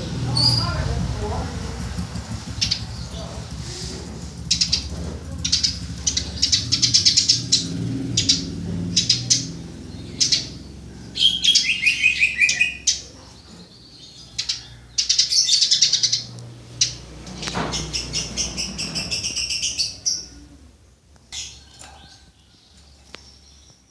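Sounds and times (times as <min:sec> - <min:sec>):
sparrow chirping: 0:00.0 - 0:23.9.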